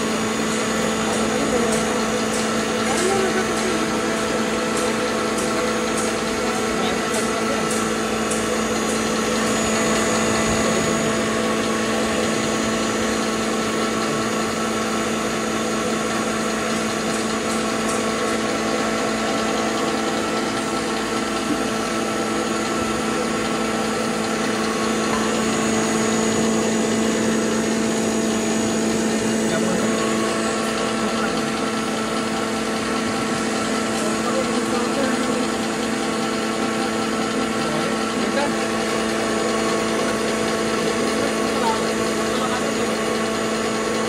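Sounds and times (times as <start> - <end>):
electric grinder humming: 0.0 - 44.0.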